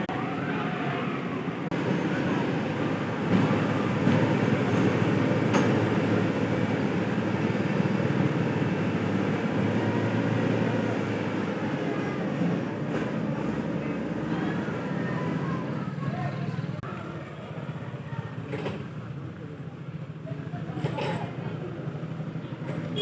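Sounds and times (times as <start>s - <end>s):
heavy vehicle rumbling: 0.0s - 23.0s.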